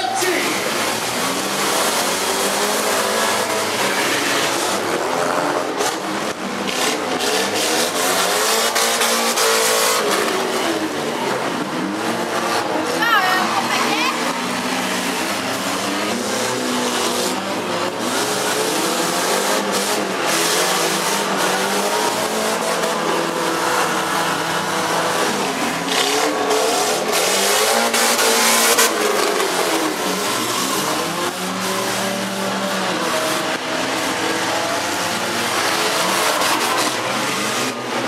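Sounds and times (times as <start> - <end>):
car engines revving: 0.0 - 38.0.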